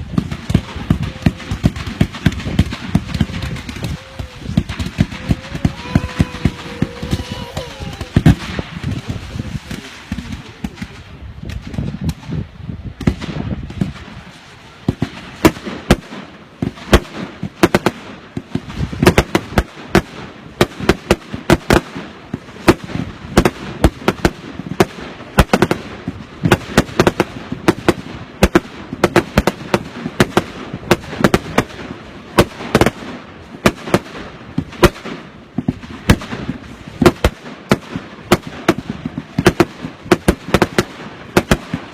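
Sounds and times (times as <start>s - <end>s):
fireworks bangs and cracks: 0.0s - 41.9s.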